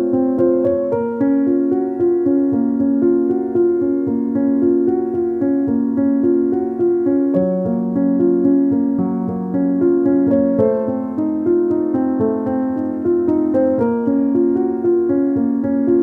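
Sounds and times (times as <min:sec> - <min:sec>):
piano-like keyboard music: 0:00.0 - 0:16.0.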